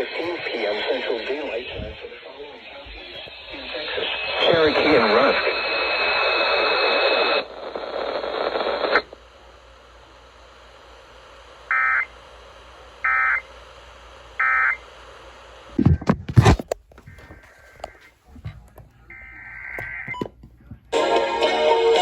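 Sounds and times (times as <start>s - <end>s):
radio hiss: 0.0s - 21.9s.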